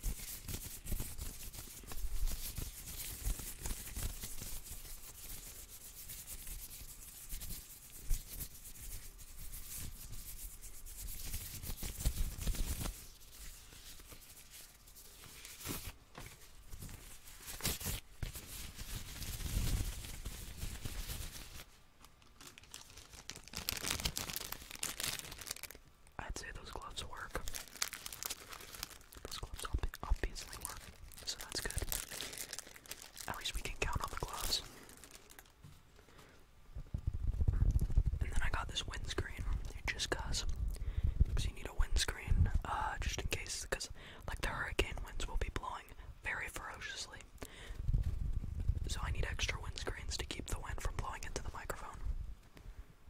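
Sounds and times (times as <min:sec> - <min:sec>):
plastic gloves rubbing and rustling: 0:00.0 - 0:43.8, 0:46.8 - 0:53.0.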